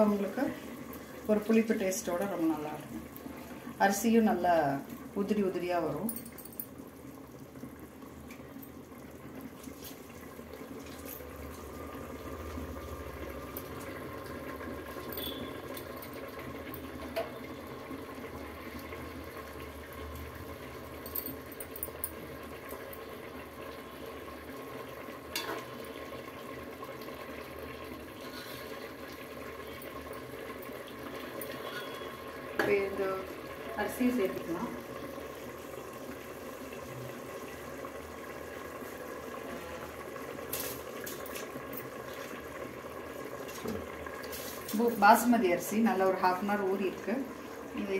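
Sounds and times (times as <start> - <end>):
gravy bubbling in a pot: 0.0 - 47.9.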